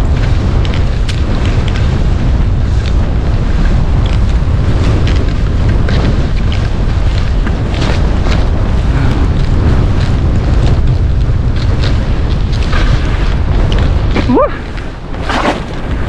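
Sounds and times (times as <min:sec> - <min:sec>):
skis scraping over snow: 0:00.0 - 0:16.0
wind buffeting microphone: 0:00.0 - 0:16.0.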